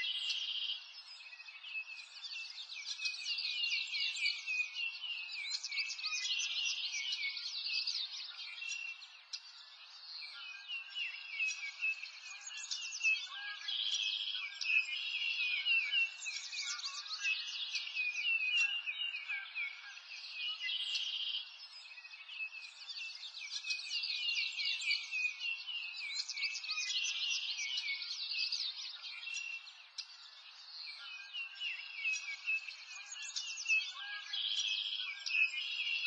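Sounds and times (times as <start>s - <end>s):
songbirds chirping and trilling: 0.0s - 36.0s.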